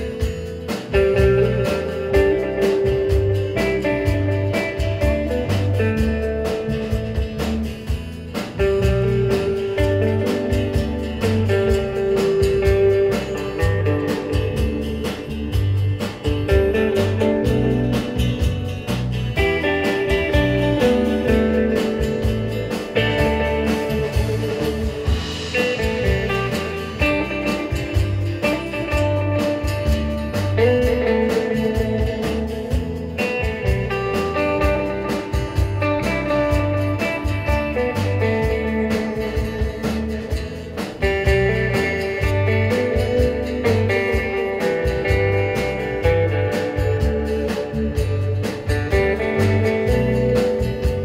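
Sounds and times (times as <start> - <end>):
bass guitar: 0.0 - 51.0
drum kit: 0.0 - 51.0
electric guitar lead melody: 0.0 - 51.0
strummed acoustic guitar: 0.0 - 51.0.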